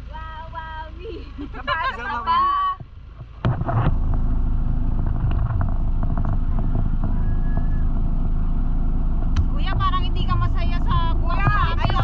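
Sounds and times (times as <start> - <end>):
off-road vehicle engine rumble: 0.0 - 12.0.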